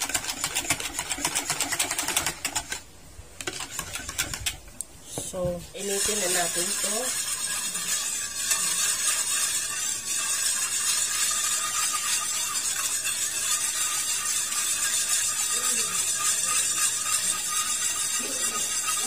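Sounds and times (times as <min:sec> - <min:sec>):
whisk swishing in a metal wok: 0:00.0 - 0:19.0.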